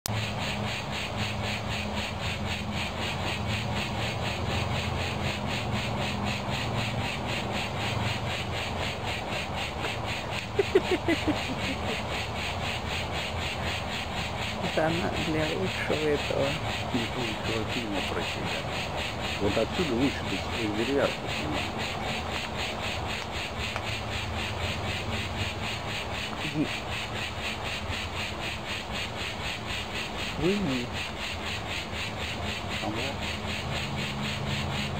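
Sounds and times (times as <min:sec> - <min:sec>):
pulsing insect chorus: 0:00.1 - 0:34.9
steady low hum: 0:00.1 - 0:34.9.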